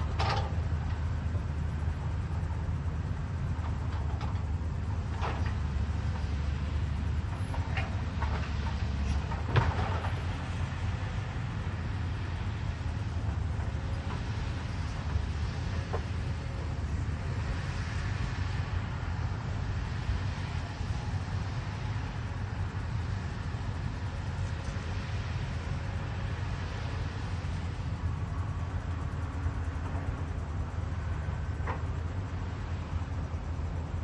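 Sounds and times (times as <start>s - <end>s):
excavator diesel engine rumbling: 0.0s - 34.0s.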